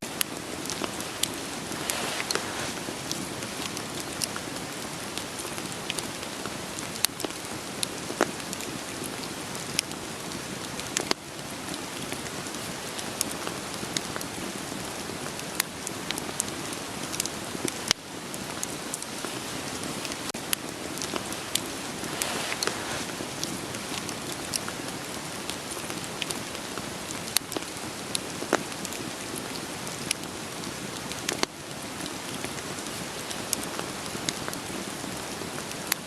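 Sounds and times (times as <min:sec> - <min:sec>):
wood fire crackling: 0:00.0 - 0:31.5
steady rain hiss: 0:00.0 - 0:36.0.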